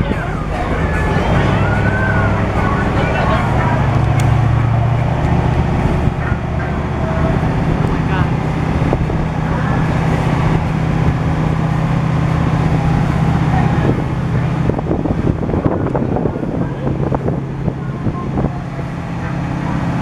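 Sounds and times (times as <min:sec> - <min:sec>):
boat motor running: 0:00.0 - 0:20.0
wind noise on microphone: 0:00.0 - 0:20.0.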